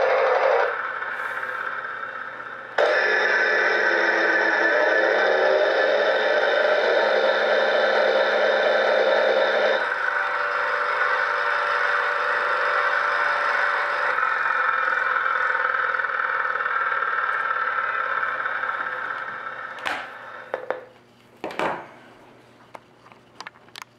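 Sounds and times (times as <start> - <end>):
electronic organ start-up grinding: 0.0 - 20.5.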